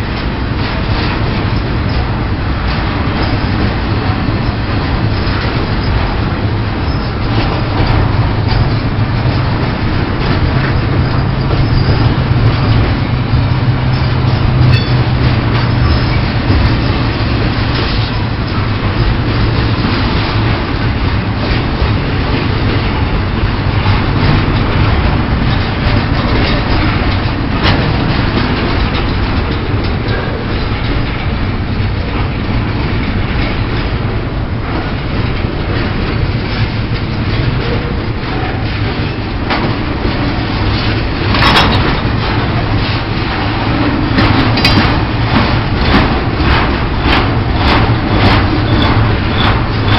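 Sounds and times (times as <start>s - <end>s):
freight train rumbling on rails: 0.0s - 49.9s.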